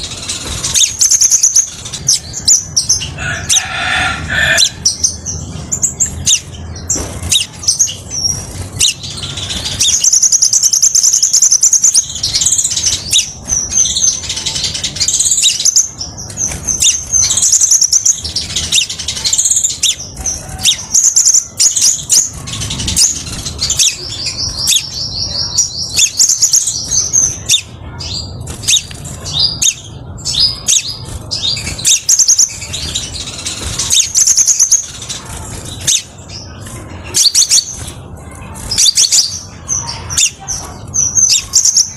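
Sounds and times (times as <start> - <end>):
bird singing fast trills: 0.0 - 41.9.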